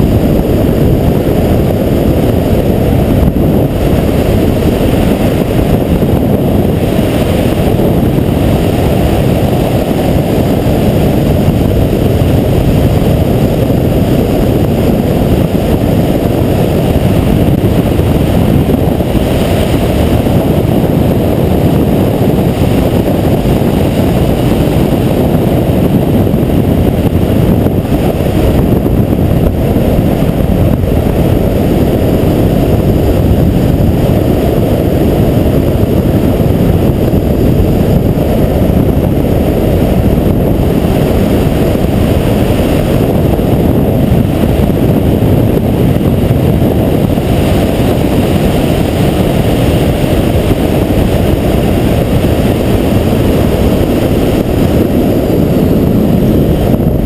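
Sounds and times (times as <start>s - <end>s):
car driving noise: 0.0s - 57.0s
wind rushing over microphone: 0.0s - 57.0s.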